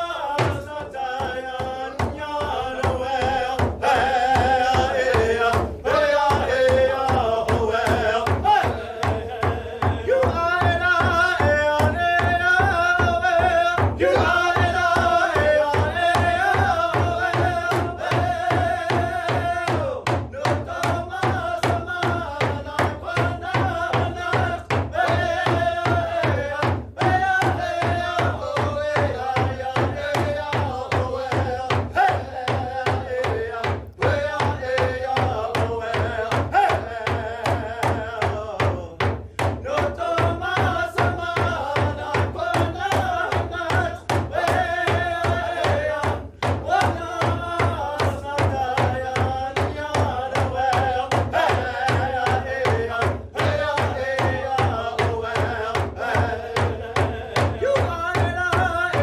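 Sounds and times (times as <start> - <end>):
frame drum beat: 0.0 - 59.0
men singing together: 0.0 - 59.0.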